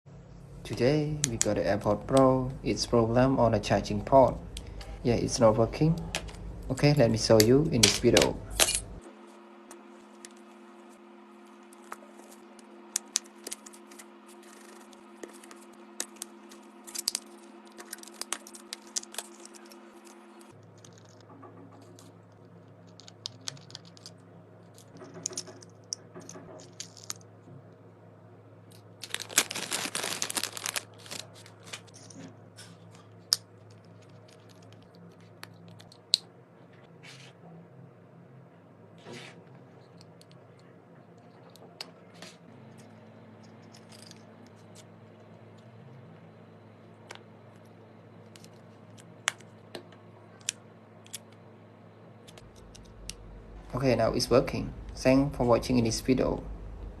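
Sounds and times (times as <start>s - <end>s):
electrical hum: 0.1s - 57.0s.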